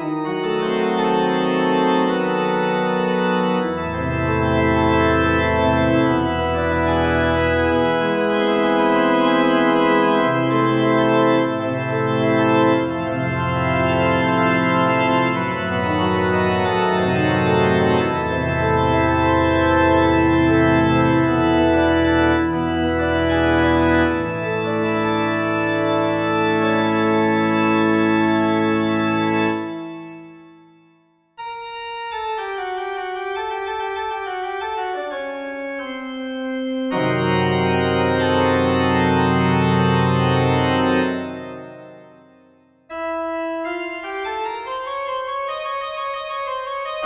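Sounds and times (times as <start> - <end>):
organ music: 0.0 - 47.0.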